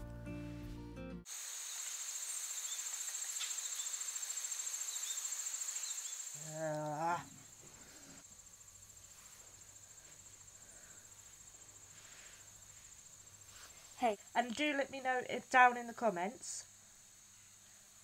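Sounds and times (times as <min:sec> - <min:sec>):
insect chirping trill: 0:01.3 - 0:18.0.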